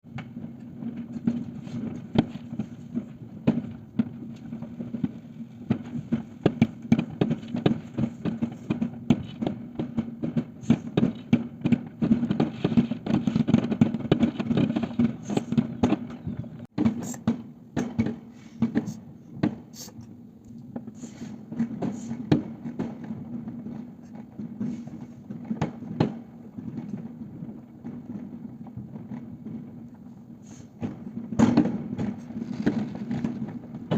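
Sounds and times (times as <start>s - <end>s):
firecrackers banging and popping: 0.0s - 33.9s.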